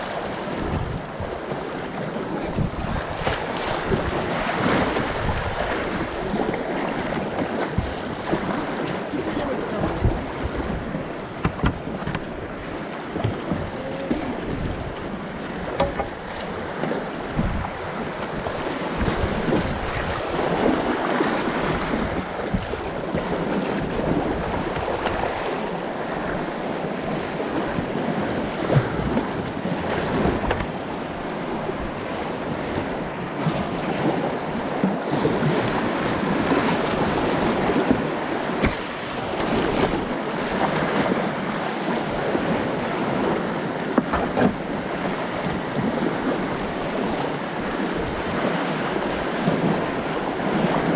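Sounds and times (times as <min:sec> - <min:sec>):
paddle splashes: 0:00.0 - 0:50.9
whitewater rushing: 0:00.0 - 0:50.9.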